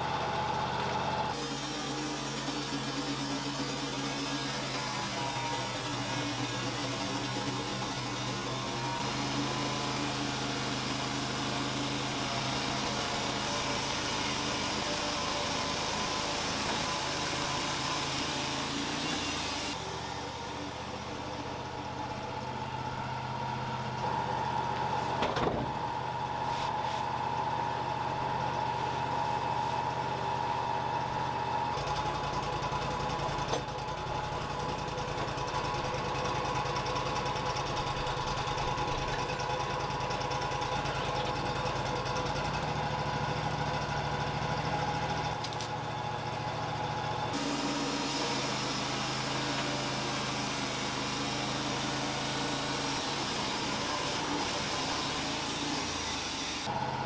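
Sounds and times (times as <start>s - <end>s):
band sawmill engine droning: 0.0s - 57.0s.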